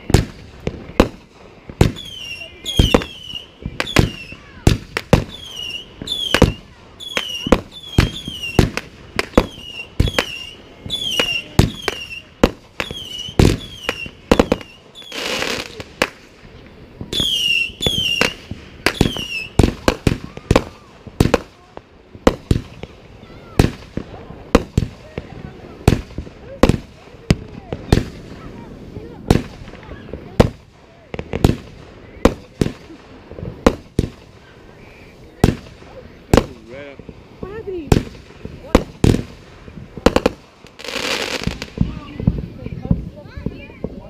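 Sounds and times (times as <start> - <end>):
fireworks bangs: 0.0 - 44.0
hissing crackle: 0.0 - 44.0.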